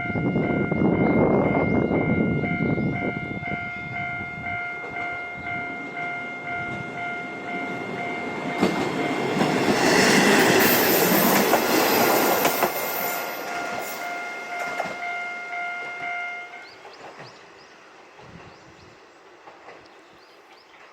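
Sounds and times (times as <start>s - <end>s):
diesel train passing: 0.0s - 20.9s.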